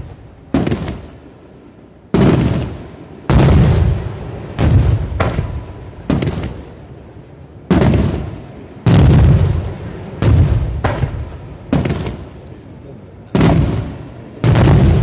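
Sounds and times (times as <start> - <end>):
firework booms: 0.0 - 1.3, 2.1 - 6.8, 7.7 - 12.4, 13.3 - 15.0
rolling echo rumble: 0.0 - 15.0.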